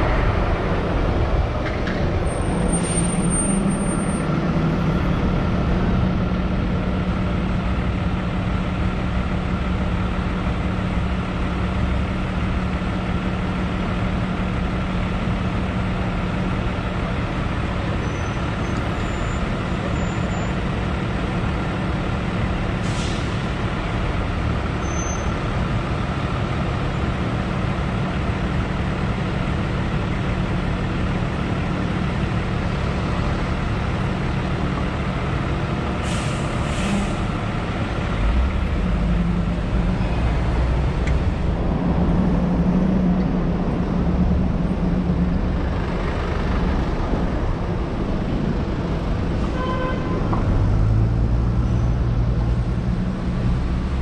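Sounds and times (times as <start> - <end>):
traffic engine and tyre rumble: 0.0 - 54.0.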